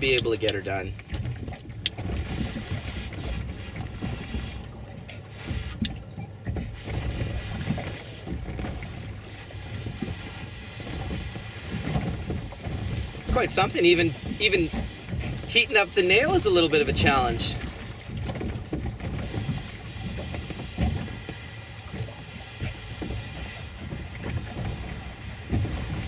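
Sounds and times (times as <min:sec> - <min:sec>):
wind buffeting the microphone: 0:00.0 - 0:26.0.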